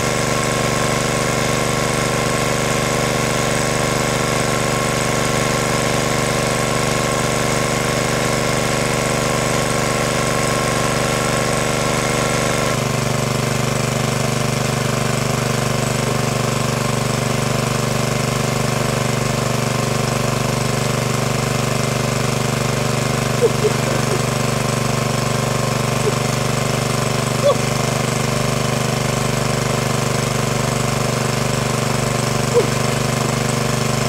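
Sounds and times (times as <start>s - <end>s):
water pump running: 0.0s - 34.0s.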